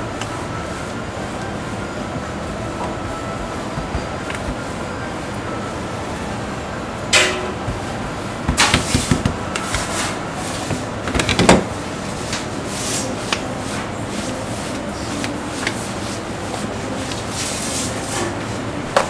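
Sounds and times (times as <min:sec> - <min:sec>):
rolling pin rolling dough: 0:00.0 - 0:19.0.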